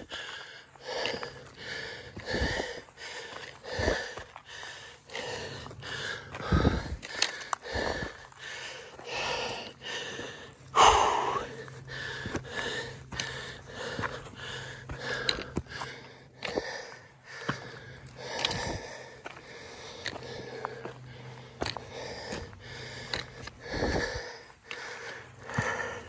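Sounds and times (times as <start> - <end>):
footsteps on dirt path: 0.0 - 26.0
person breathing heavily: 0.0 - 26.0.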